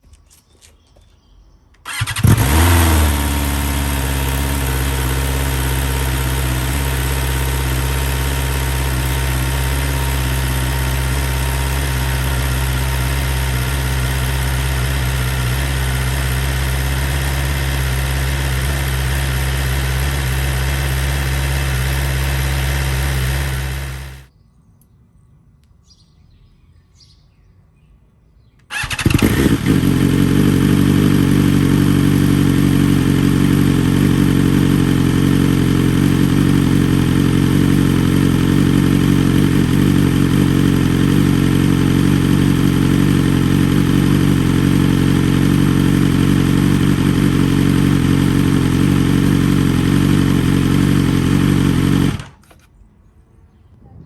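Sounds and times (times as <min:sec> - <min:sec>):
motorcycle engine starting and idling: 0:00.1 - 0:24.3, 0:28.6 - 0:52.8.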